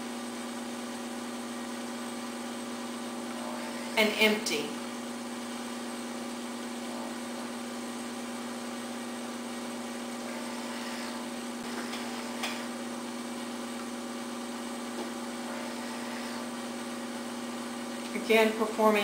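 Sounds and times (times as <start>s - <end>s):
electric pump hum: 0.0s - 19.0s.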